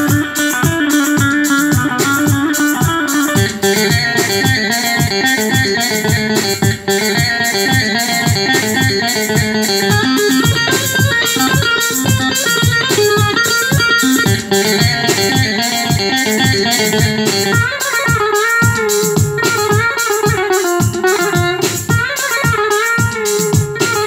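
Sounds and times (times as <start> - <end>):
keyboard plucked-string melody: 0.0 - 24.0.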